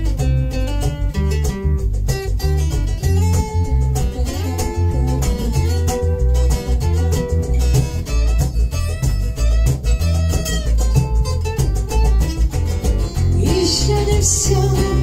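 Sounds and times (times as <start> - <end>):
bass: 0.0 - 15.0
guitar melody: 0.0 - 15.0
steady drum beat: 0.7 - 15.0.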